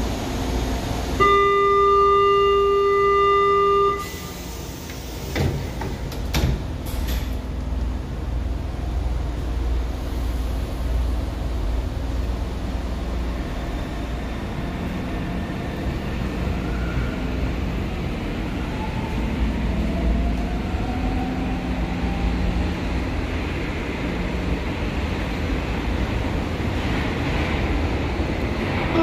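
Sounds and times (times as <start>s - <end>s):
metro train rumble: 0.0s - 29.0s.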